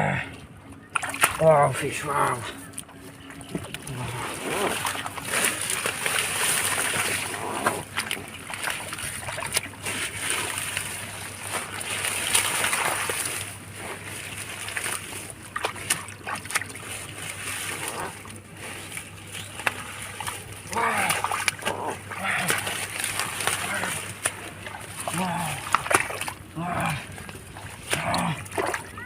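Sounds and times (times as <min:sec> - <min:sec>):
hands splashing in water: 0:00.9 - 0:01.4, 0:02.8 - 0:29.0.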